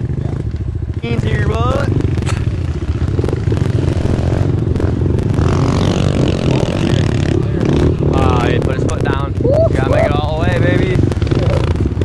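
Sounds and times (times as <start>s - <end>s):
engine clattering: 0.0s - 12.0s
small motorbike engine running: 0.0s - 12.0s.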